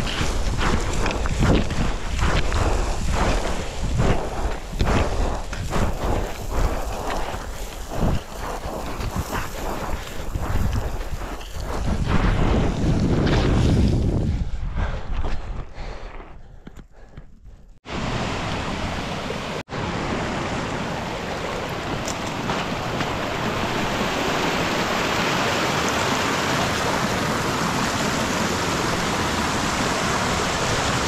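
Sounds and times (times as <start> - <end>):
rushing water: 0.0 - 12.0, 17.9 - 31.0
wind noise: 0.0 - 31.0.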